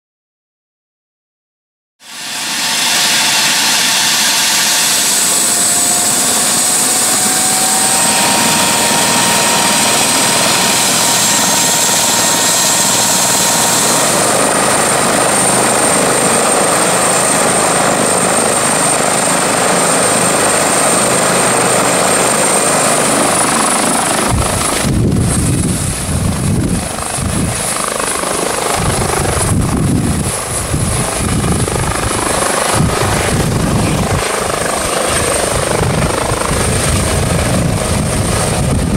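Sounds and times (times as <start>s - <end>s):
helicopter rotor beating: 2.0s - 38.9s
helicopter turbine whine: 2.0s - 38.9s.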